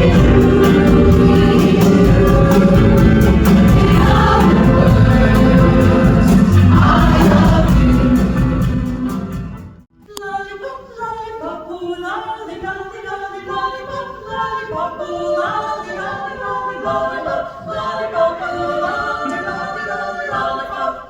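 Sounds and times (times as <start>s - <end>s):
women's chorus singing a cappella: 0.0s - 21.0s.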